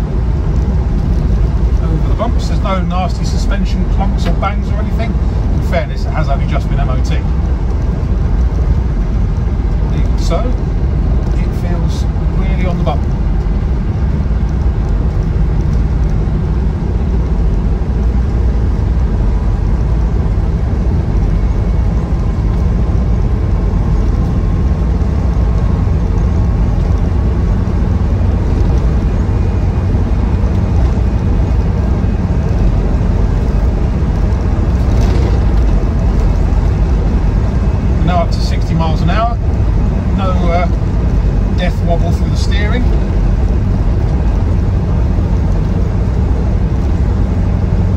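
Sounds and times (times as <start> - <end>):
diesel engine running: 0.0 - 47.9
road noise: 0.0 - 47.9.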